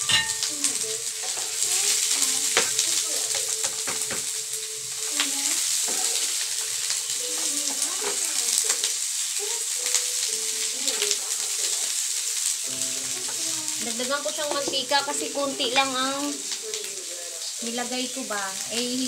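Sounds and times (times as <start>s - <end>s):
onions sizzling in frying pan: 0.0s - 19.0s.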